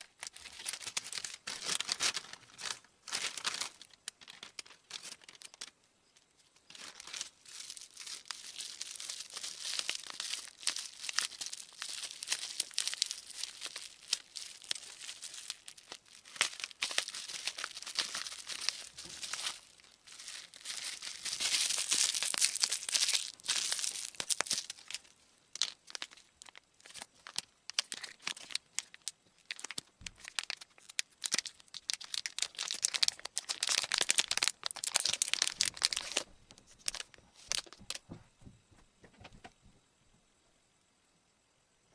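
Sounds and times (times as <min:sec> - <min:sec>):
packaging crinkling and tearing: 0:00.0 - 0:38.2.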